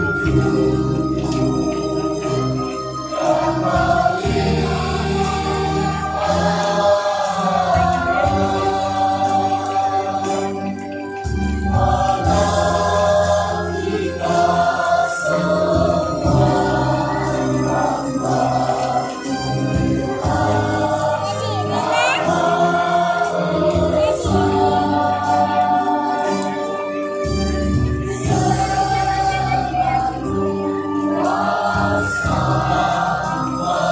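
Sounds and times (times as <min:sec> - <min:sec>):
choir singing: 0:00.0 - 0:33.9
instrumental accompaniment: 0:00.0 - 0:33.9.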